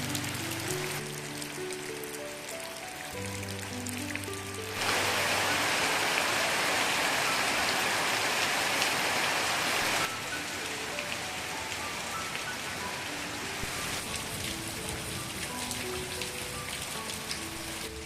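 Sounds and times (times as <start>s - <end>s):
soft background music: 0.0s - 8.6s, 10.0s - 18.0s
heavy rain falling: 0.0s - 18.0s
light rain: 0.0s - 18.0s.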